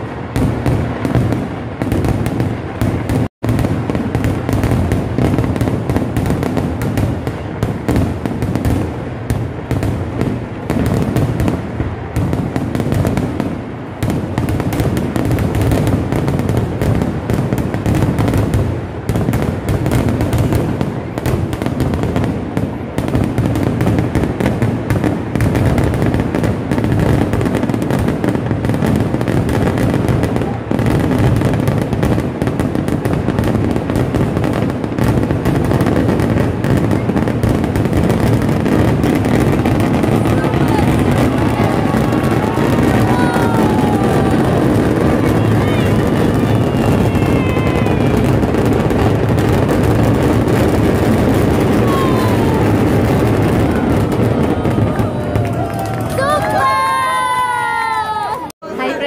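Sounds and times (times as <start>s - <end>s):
fireworks blasts and crackling: 0.0s - 59.0s.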